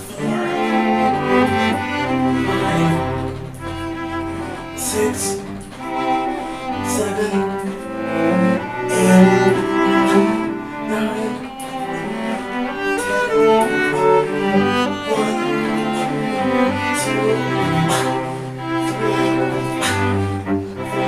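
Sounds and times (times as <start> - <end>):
bowed strings holding notes: 0.0 - 21.0.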